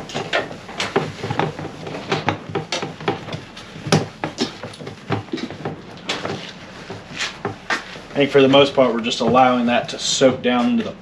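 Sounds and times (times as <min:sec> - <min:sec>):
cloth scuffing wipes: 0:00.0 - 0:11.0.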